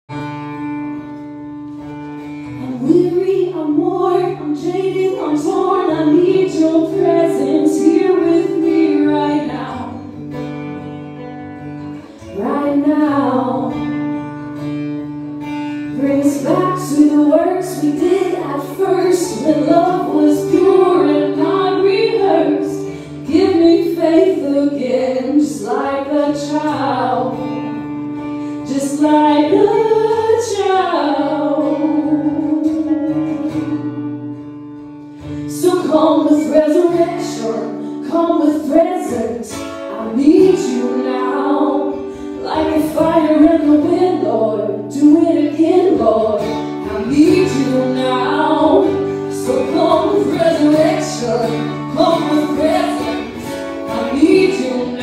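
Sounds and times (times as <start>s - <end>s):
acoustic guitar: 0.1s - 55.0s
woman singing: 2.5s - 10.3s, 12.1s - 14.3s, 15.7s - 34.3s, 35.3s - 55.0s.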